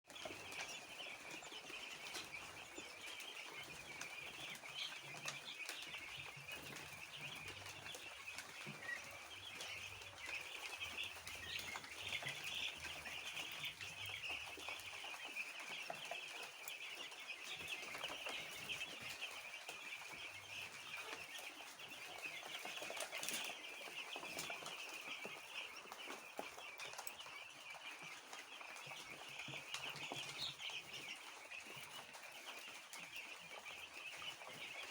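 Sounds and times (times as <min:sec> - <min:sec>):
chickens peeping and clucking: 0:00.1 - 0:34.9.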